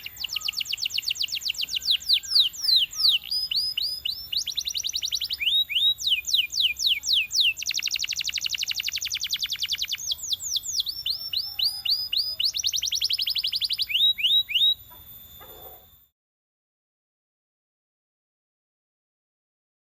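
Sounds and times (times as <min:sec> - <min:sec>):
canary singing: 0:00.0 - 0:16.1.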